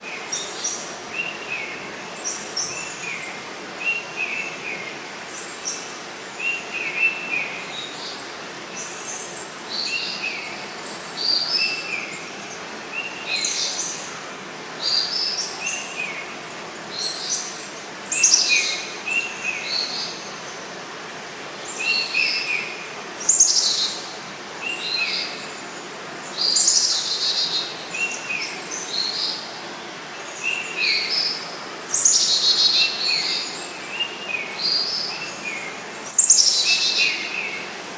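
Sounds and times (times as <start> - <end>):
forest birds calling: 0.0 - 37.9
steady background hiss: 0.0 - 37.9.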